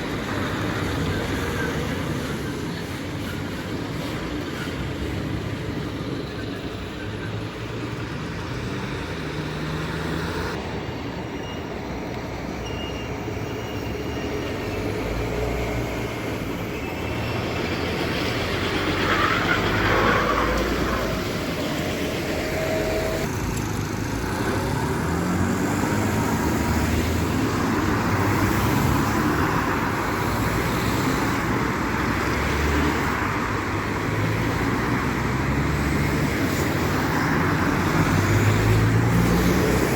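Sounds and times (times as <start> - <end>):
heavy trucks driving past: 0.0 - 39.9.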